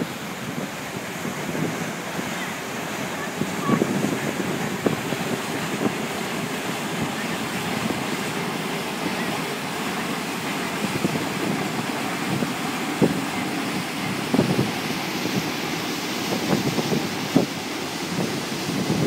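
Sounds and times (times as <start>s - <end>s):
rush of wind and water: 0.0s - 19.0s
wind buffeting microphone: 0.0s - 19.0s.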